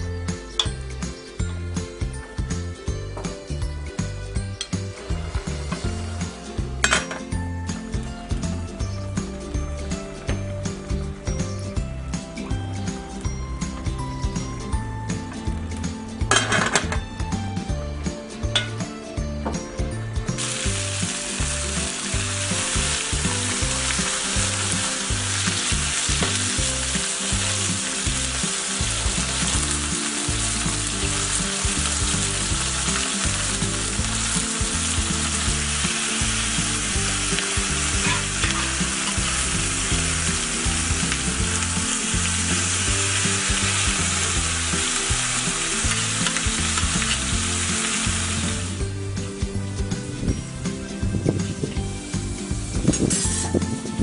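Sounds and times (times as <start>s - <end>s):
chicken sizzling in hot oil: 4.7s - 15.2s, 20.3s - 50.7s, 51.4s - 53.9s.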